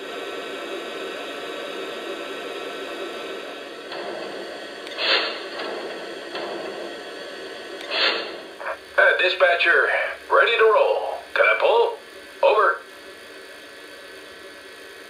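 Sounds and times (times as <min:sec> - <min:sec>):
model locomotive steam hiss: 0:00.0 - 0:15.0.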